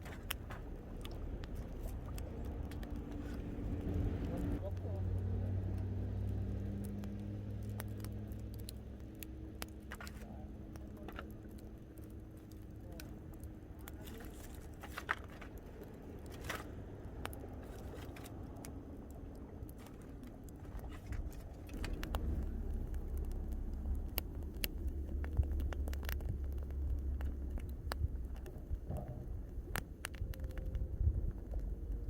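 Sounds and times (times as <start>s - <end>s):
campfire crackling: 0.0s - 32.0s
low rumble: 0.0s - 32.0s.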